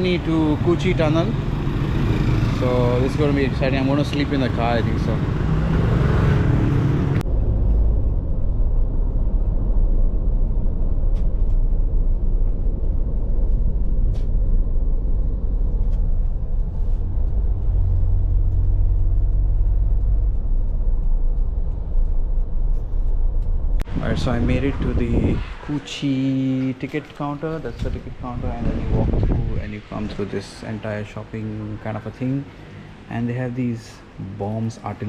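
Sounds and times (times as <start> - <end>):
engine and road rumble: 0.0 - 35.0.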